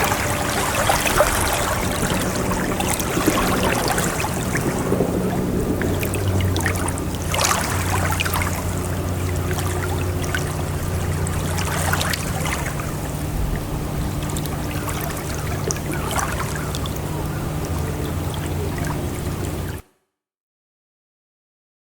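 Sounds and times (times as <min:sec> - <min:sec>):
sea water splashing: 0:00.0 - 0:19.8
steady low hum: 0:00.0 - 0:19.8.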